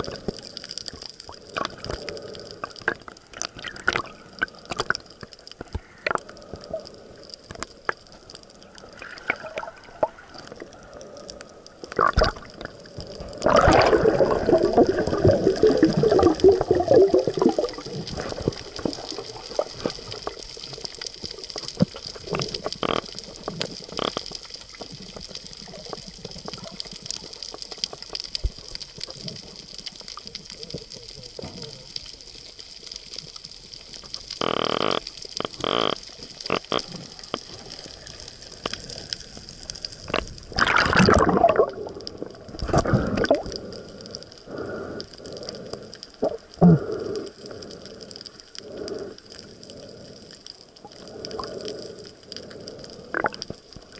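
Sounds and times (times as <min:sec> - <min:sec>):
bubbling and gurgling: 0:00.0 - 0:53.9
underwater clicks and crackling: 0:00.0 - 0:53.9.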